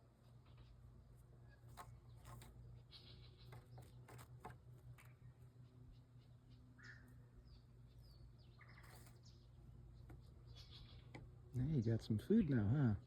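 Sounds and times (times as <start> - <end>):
faint bird chirps: 0.0 - 4.2, 5.0 - 11.3.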